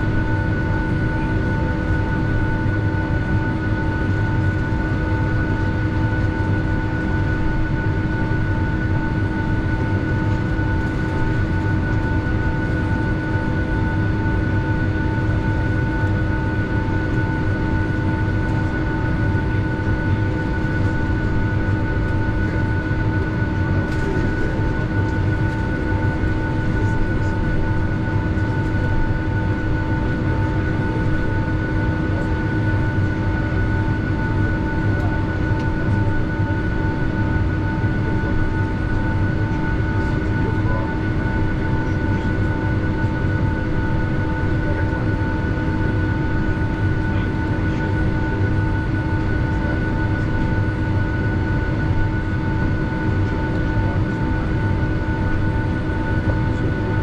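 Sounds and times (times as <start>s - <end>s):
jet engines idling: 7.1s - 57.0s.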